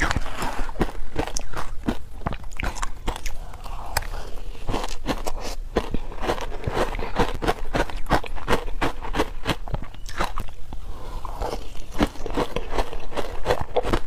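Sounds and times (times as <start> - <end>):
teeth crunching frozen ice: 0.0 - 14.0.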